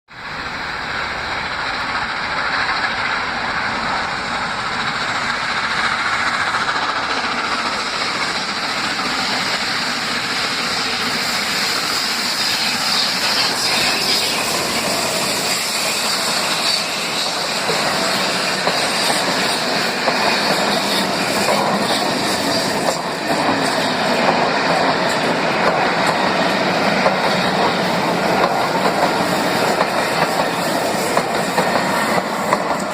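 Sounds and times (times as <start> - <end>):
steam train running past: 0.1 - 32.9.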